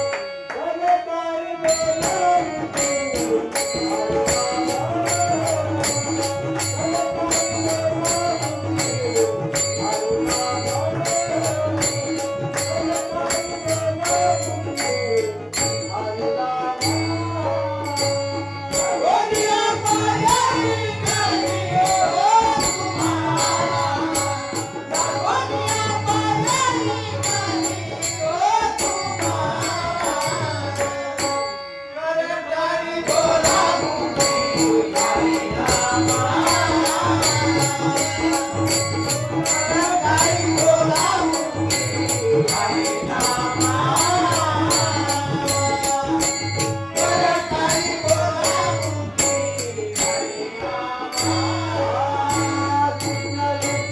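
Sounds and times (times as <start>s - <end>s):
man singing: 0.0s - 53.9s
tabla: 0.0s - 53.9s
jingling beat: 1.6s - 32.0s, 33.0s - 53.9s.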